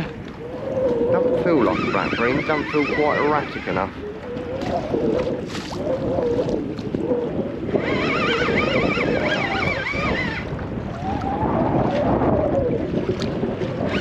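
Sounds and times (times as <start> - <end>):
water slapping boat hull: 0.0 - 14.0
wind buffeting microphone: 0.0 - 14.0
wavering high whine: 0.2 - 11.5.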